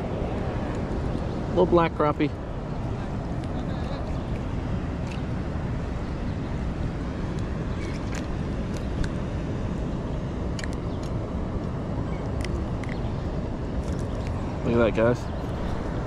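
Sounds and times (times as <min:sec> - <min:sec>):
rushing water below spillway: 0:00.0 - 0:16.0.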